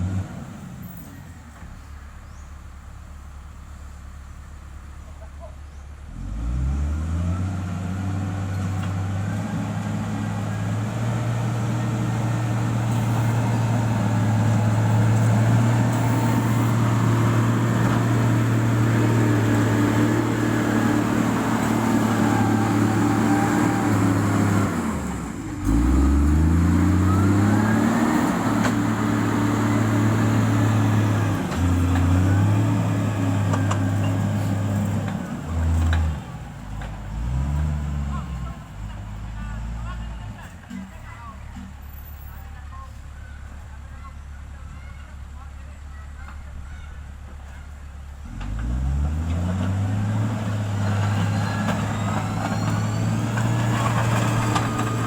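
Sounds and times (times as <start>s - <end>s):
diesel engine revving: 0.0s - 5.0s, 5.9s - 42.3s, 47.1s - 55.0s.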